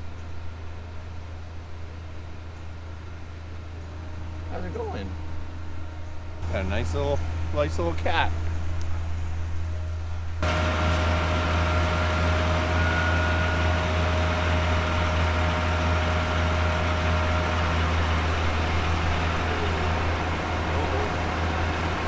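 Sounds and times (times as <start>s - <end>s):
diesel truck engine idling: 2.0s - 22.0s.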